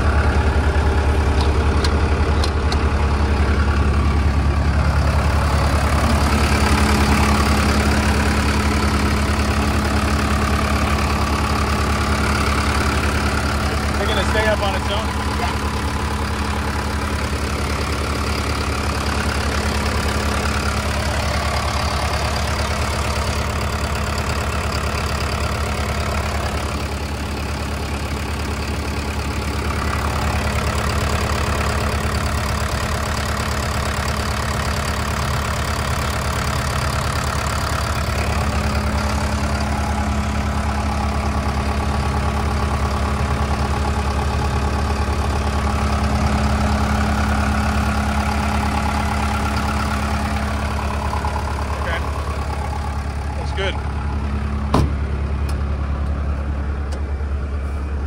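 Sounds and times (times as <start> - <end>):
diesel generator engine hum: 0.0 - 58.0.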